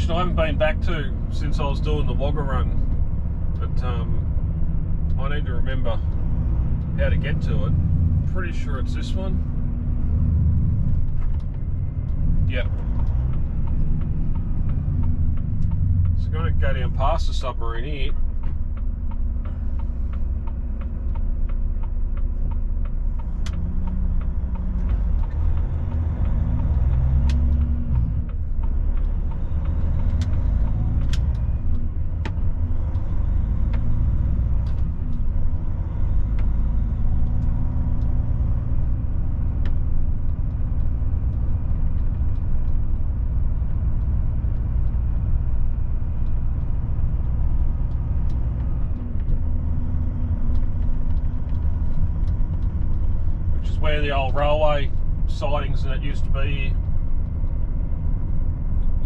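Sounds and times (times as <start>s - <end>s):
low road rumble: 0.0s - 59.0s
truck diesel engine running: 0.0s - 59.0s
sharp clicks and knocks: 1.5s - 59.0s.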